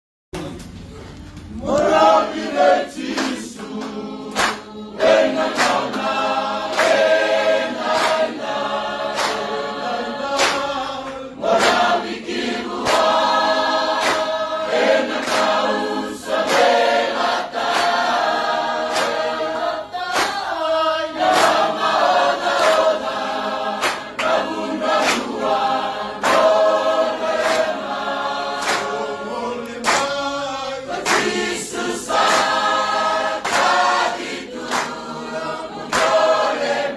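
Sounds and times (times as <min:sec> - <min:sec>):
choir singing: 0:01.5 - 0:36.9.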